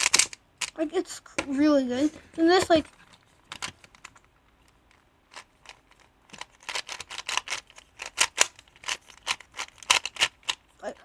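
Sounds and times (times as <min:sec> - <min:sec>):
plastic puzzle clicking: 0:00.0 - 0:00.8, 0:02.5 - 0:10.7.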